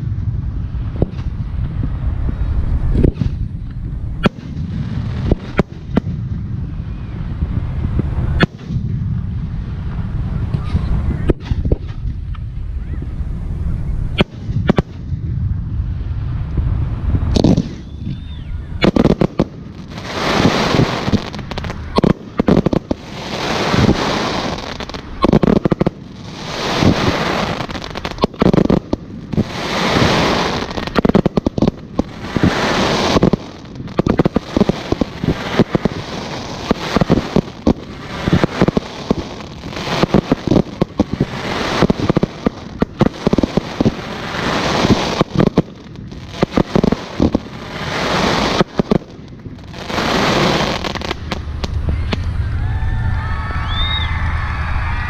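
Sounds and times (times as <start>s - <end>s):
fireworks booming: 0.0s - 55.0s
fireworks crackling and hissing: 0.0s - 55.0s.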